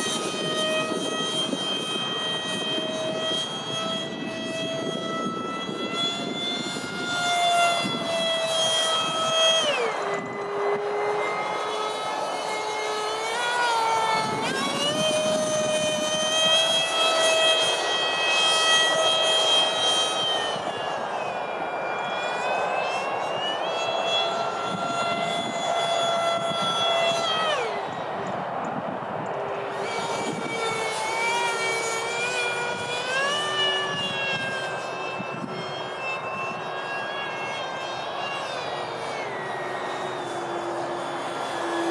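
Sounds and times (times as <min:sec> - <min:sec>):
electric ducted fan whine: 0:00.0 - 0:41.9
wind rumble on microphone: 0:00.0 - 0:41.9.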